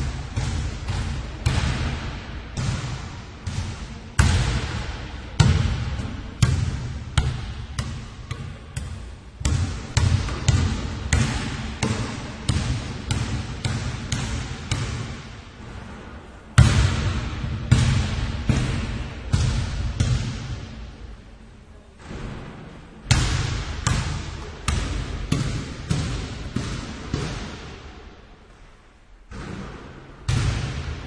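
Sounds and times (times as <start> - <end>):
basketball bouncing: 0.0 - 15.8, 16.6 - 20.8, 22.0 - 27.9, 29.3 - 31.0.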